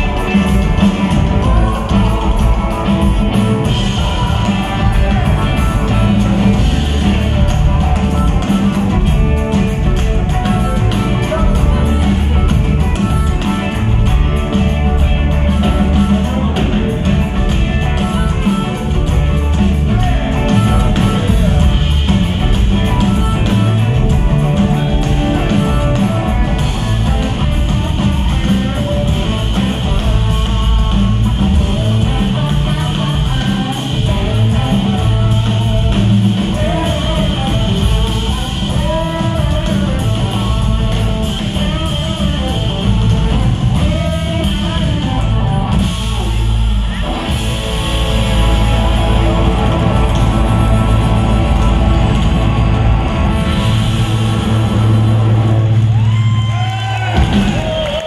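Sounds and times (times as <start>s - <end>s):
live blues band playing: 0.0s - 58.0s.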